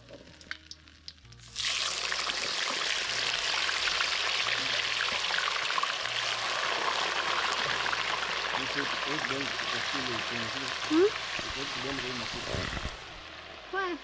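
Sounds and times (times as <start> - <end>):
potatoes sizzling in hot oil: 0.0 - 14.0.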